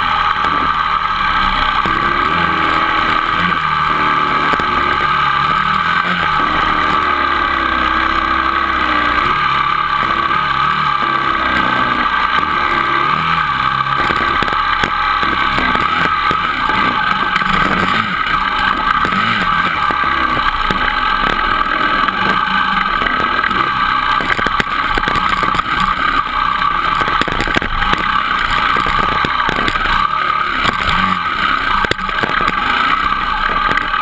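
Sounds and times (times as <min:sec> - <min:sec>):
bike bouncing over gravel: 0:00.0 - 0:34.0
dirt bike engine: 0:00.0 - 0:34.0.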